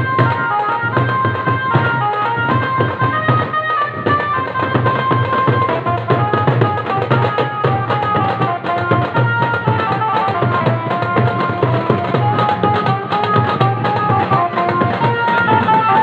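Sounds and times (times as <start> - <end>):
fast drum rhythm: 0.0 - 16.0
melody of held notes: 0.0 - 16.0.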